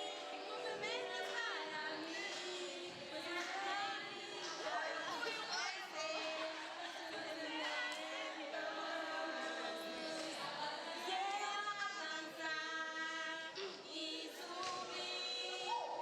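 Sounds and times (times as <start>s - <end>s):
choir singing long notes: 0.0s - 11.6s, 13.9s - 16.0s.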